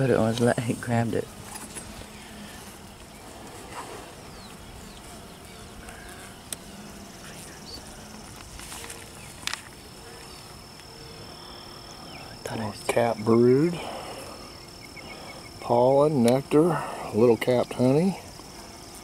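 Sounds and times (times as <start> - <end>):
high-pitched insect tone: 0.0 - 19.0
honeybees buzzing: 0.0 - 19.0.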